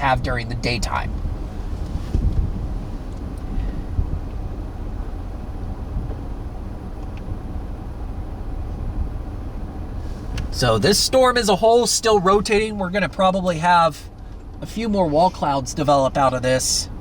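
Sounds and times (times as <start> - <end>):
vehicle cabin rumble: 0.0 - 17.0.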